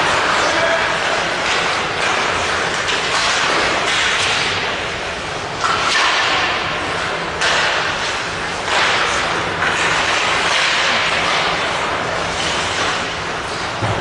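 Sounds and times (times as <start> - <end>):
skate blades scraping ice: 0.0 - 14.0.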